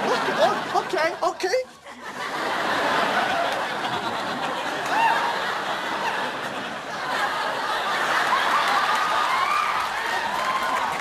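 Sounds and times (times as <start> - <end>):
studio audience laughing: 0.0 - 10.4.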